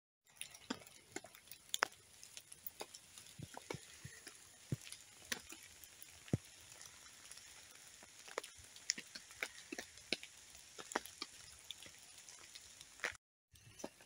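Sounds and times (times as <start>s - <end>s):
rain dripping on a tarp: 0.2s - 14.0s.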